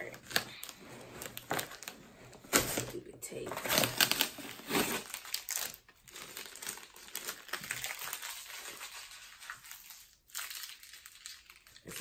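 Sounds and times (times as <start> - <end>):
packing tape crumpling: 0.0 - 12.0.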